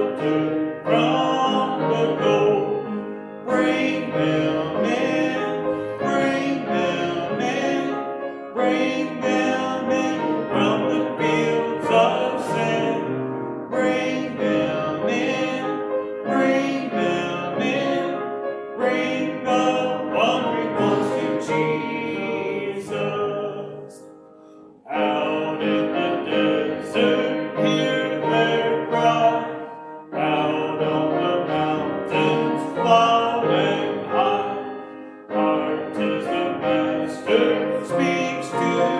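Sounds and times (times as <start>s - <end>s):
hymn singing: 0.0s - 38.9s
piano accompaniment: 0.0s - 38.9s.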